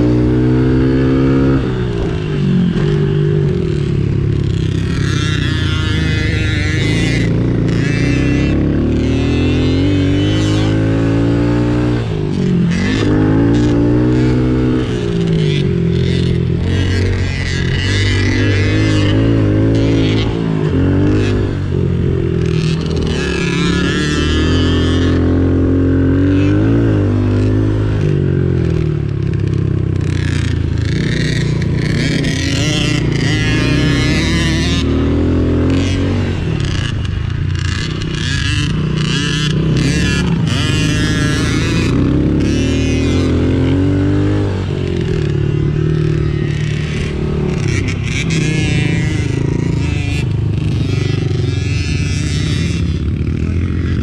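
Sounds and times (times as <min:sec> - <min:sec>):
small off-road engine revving: 0:00.0 - 0:54.0.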